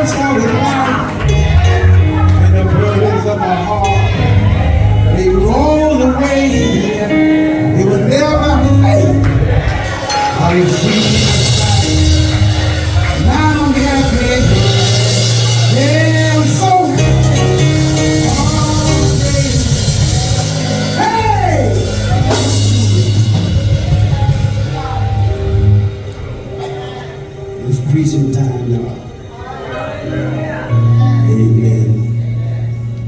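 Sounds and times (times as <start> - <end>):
band playing loudly: 0.0 - 33.0.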